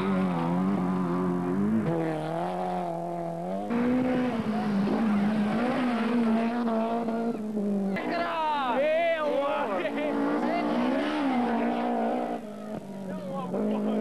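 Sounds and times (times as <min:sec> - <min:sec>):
rally car engines at high revs: 0:00.0 - 0:14.0.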